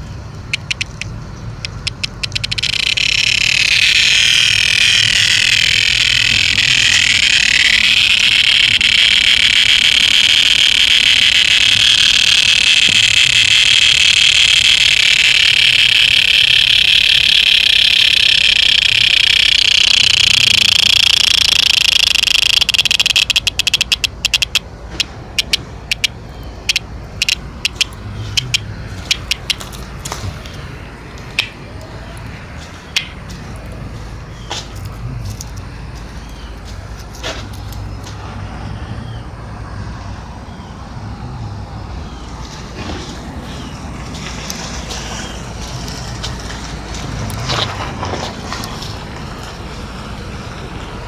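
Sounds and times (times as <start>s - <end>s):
cicada clicking and buzzing: 0.0s - 38.3s, 41.7s - 51.0s.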